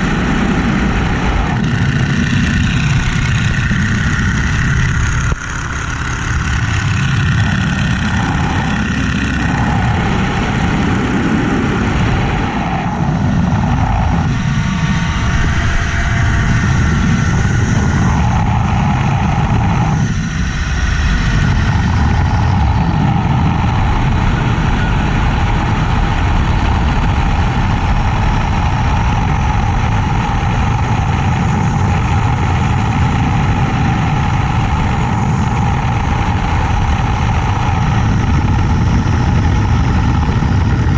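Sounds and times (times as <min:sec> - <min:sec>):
biplane engine and propeller: 0:00.0 - 0:40.9.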